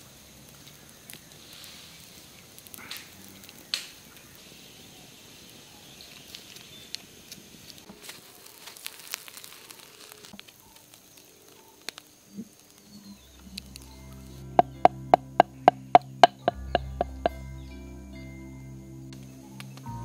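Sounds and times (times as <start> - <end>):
wood fire crackling: 0.0 - 19.9
faint hiss: 0.0 - 20.0.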